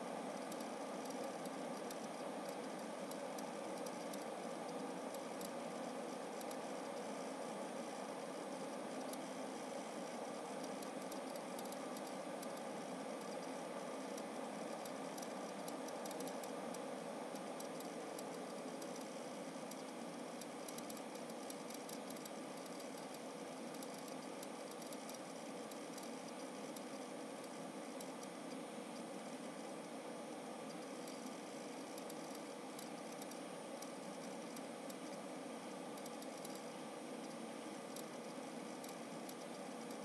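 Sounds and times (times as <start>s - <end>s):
computer fan whirring: 0.0s - 40.0s
hard drive clicking: 0.4s - 8.3s, 8.9s - 30.0s, 30.7s - 35.2s, 35.9s - 40.0s.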